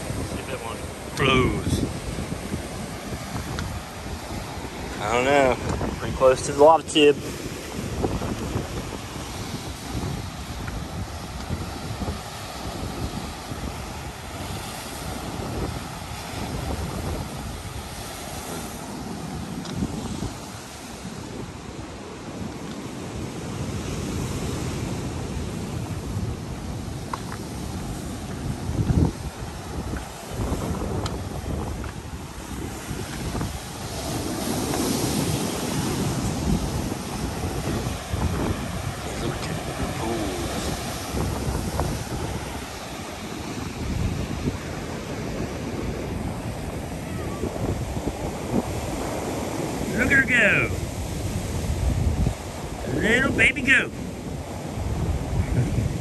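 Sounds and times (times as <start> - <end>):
ocean surf crashing on rocks: 0.0 - 56.0
wind buffeting microphone: 0.0 - 56.0.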